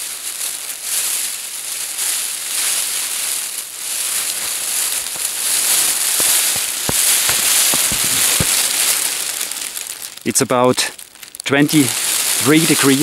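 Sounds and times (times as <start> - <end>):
foil blanket crinkling: 0.0 - 13.0.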